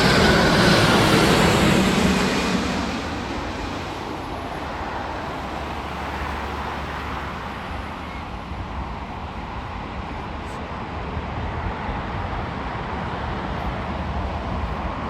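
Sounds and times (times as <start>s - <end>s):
distant traffic rumble: 0.0s - 15.0s
jet airliner roar: 0.0s - 15.0s.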